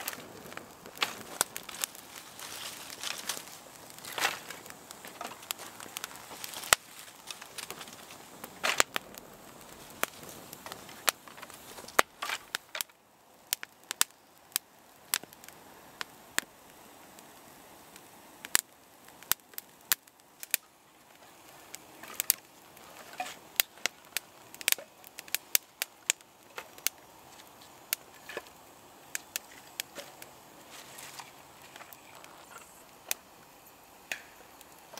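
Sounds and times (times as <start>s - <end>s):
sharp pops and snaps: 0.0s - 16.8s, 17.9s - 34.9s
wood fire crackling: 0.0s - 34.9s.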